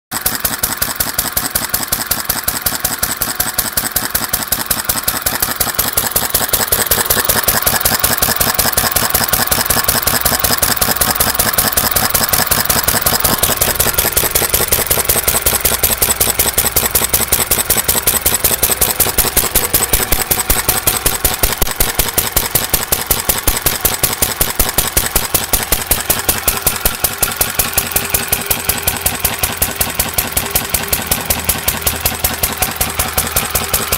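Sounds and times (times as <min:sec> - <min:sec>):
single-cylinder engine popping: 0:00.1 - 0:33.9.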